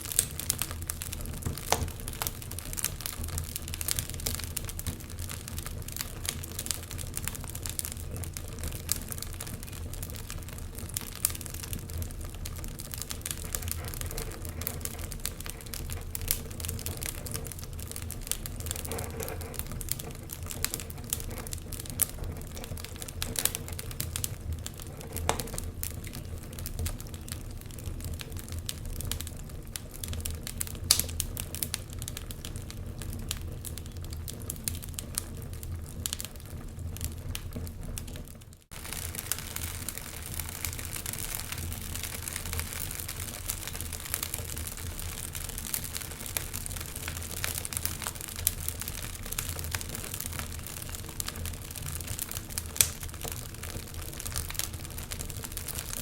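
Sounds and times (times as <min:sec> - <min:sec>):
open fire crackling and popping: 0:00.0 - 0:56.0.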